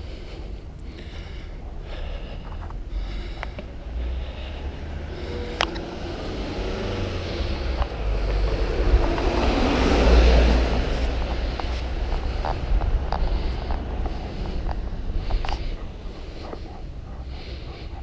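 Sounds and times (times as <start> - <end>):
low traffic rumble: 0.0 - 18.0
vehicle passing: 0.0 - 18.0.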